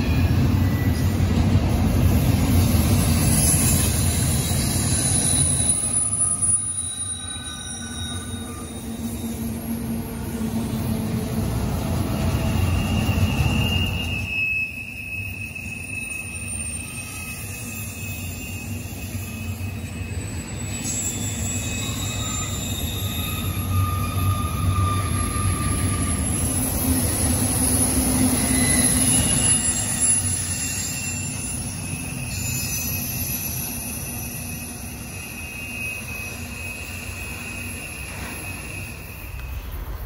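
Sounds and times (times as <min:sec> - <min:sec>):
train wheels rumbling on rail: 0:00.0 - 0:40.0
high-pitched wheel squeal: 0:02.6 - 0:10.8, 0:12.0 - 0:40.0.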